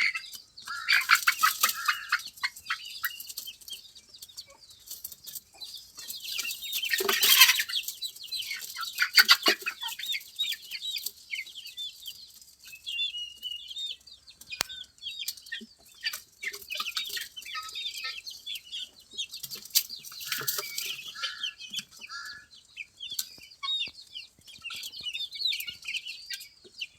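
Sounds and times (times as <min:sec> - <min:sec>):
poultry squawks: 0:00.0 - 0:03.5, 0:06.3 - 0:11.6, 0:12.7 - 0:26.9
poultry peeps and clucks: 0:00.0 - 0:26.9.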